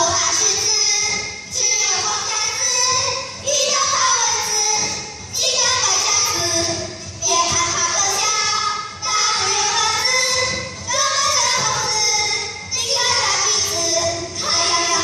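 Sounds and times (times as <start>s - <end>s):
child singing: 0.0s - 15.0s
children's song music: 0.0s - 15.0s.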